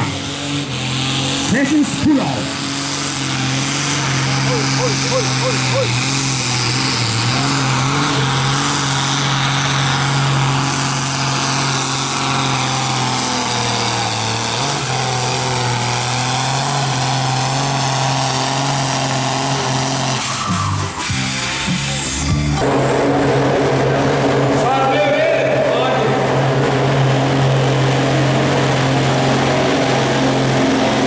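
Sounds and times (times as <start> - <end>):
tractor diesel engine under load: 0.0 - 31.0.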